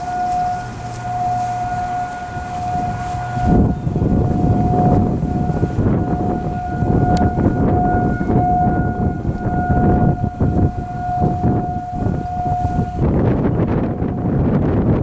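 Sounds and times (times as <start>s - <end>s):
low rushing noise: 0.0s - 15.0s
warning siren steady tone: 0.0s - 15.0s.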